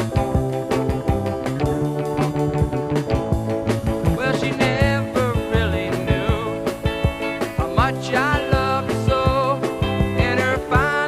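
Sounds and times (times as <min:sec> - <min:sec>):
bass guitar: 0:00.0 - 0:11.0
keyboard or organ chords: 0:00.0 - 0:11.0
steady drum beat: 0:01.8 - 0:10.9.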